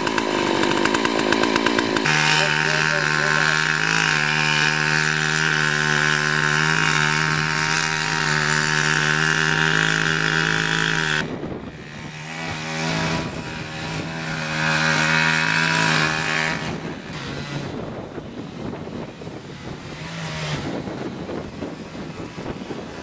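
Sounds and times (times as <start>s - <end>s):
chainsaw cutting tree trunk: 0.0s - 23.0s.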